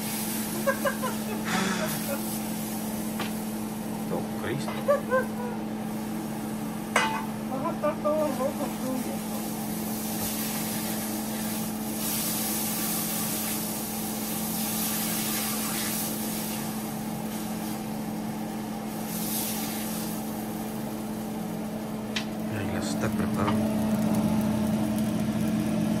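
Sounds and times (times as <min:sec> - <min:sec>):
tortillas sizzling in a pan: 0:00.0 - 0:07.5, 0:08.2 - 0:26.0
constant low hum: 0:00.0 - 0:26.0.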